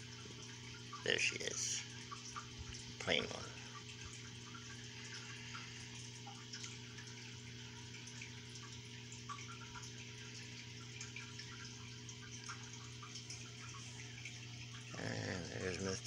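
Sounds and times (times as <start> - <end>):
aquarium water bubbling: 0.0 - 16.0
low steady hum: 0.0 - 16.0
water drips: 0.0 - 16.0.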